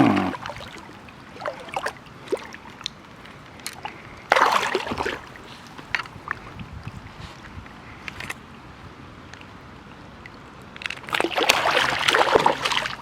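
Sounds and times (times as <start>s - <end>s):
water sloshing and splashing: 0.0s - 8.6s, 9.4s - 13.0s.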